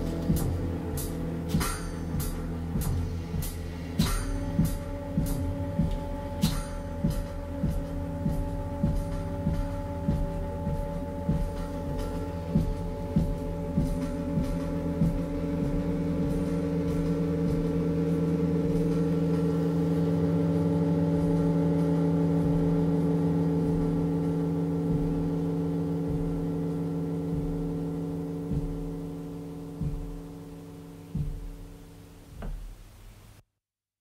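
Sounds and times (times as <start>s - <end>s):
sustained low drone tone: 0.0s - 32.4s
soft low thumps: 0.0s - 33.4s.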